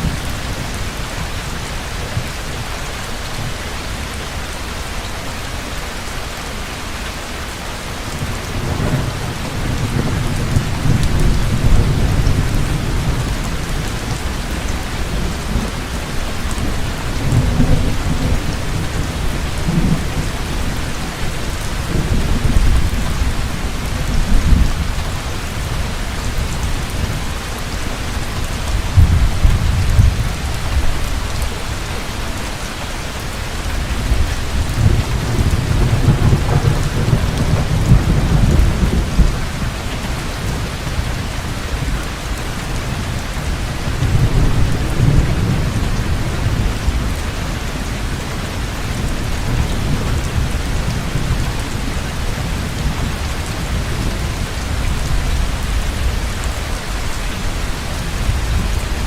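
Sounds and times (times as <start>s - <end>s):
heavy rain hissing: 0.0s - 59.0s
thunder rumbling: 8.1s - 31.7s, 33.7s - 42.2s, 42.8s - 59.0s.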